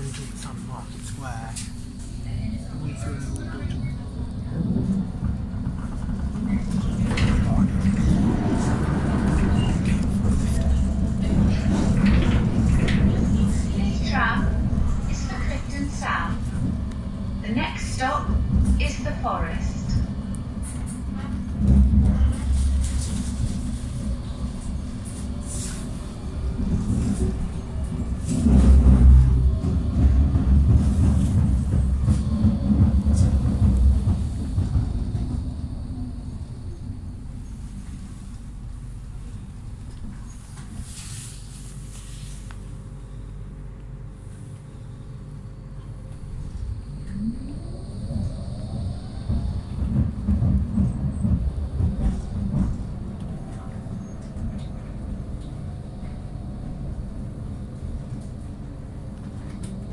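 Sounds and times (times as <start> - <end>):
tram wheels rumbling: 0.0 - 59.9.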